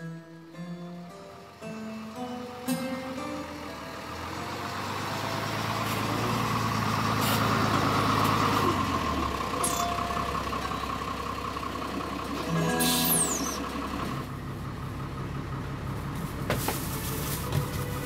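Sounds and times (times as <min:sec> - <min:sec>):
bus engine approaching and idling: 0:00.3 - 0:18.0.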